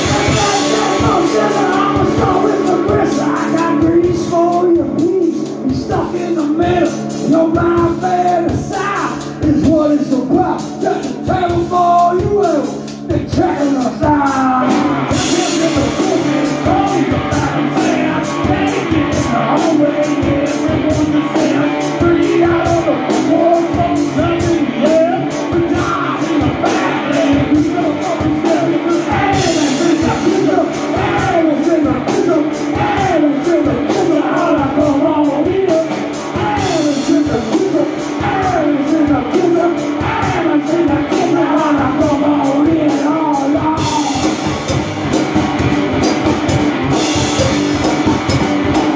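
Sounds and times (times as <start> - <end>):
drum kit: 0.0 - 48.9
electric guitar: 0.0 - 48.9.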